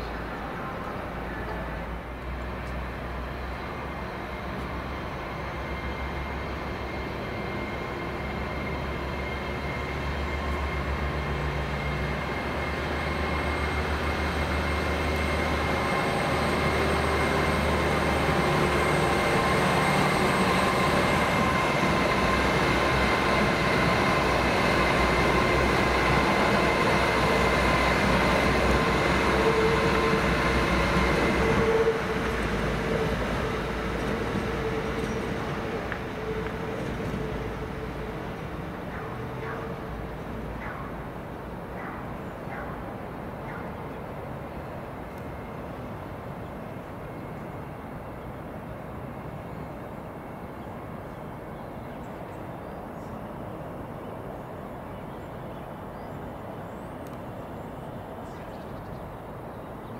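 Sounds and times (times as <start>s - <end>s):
train approaching with high whine: 0.0s - 59.9s.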